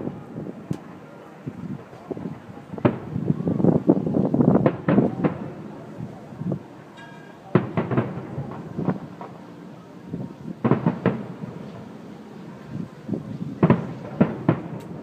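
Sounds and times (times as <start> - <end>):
fireworks bangs and crackles: 0.0 - 6.7, 7.4 - 15.0.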